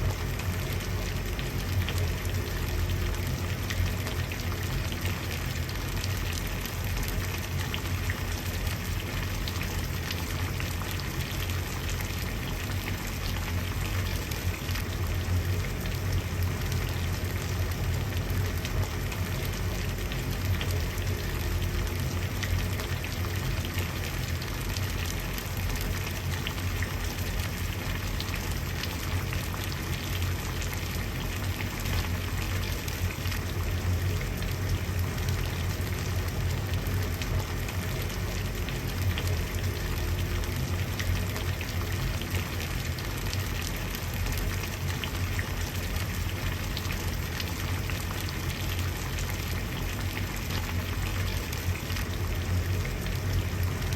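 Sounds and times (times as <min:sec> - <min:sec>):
water boiling and bubbling: 0:00.0 - 0:53.9.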